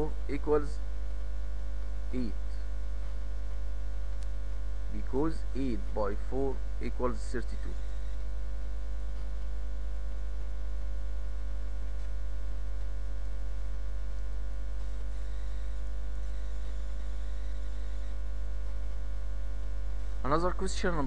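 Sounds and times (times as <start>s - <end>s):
higher hum tones: 0.0s - 21.0s
low electrical mains hum: 0.0s - 21.0s.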